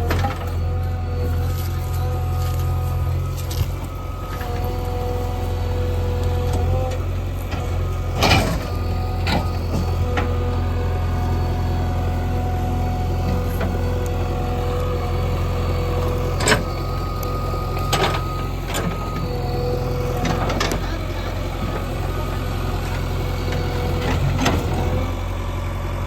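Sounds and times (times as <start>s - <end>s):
diesel engine whining: 0.0s - 26.0s.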